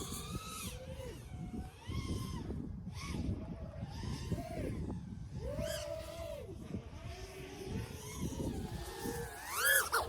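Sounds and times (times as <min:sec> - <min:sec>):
drone motors whining: 0:00.0 - 0:10.0
wind buffeting microphone: 0:00.0 - 0:10.0.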